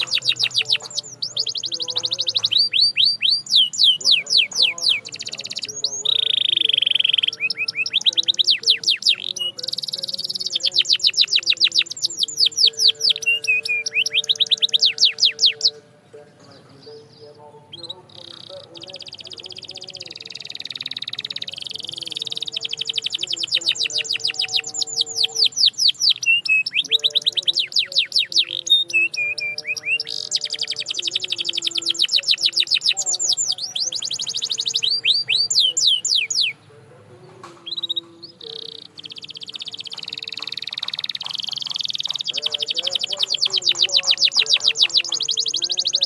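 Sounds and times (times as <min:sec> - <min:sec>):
canary singing trills: 0:00.0 - 0:46.0.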